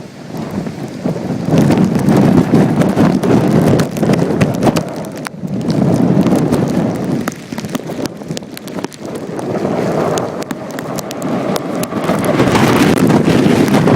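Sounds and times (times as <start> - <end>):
rain ticking on microphone: 0.0 - 13.9
wind gusting across microphone: 0.0 - 13.9.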